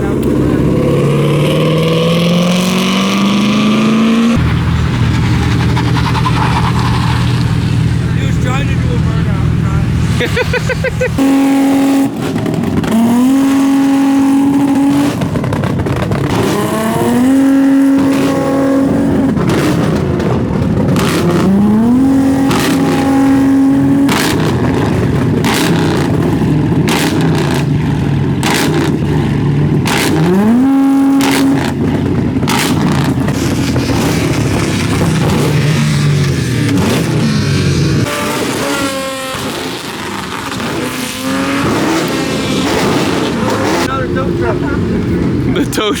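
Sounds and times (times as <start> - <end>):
car engine revving hard: 0.0 - 46.0.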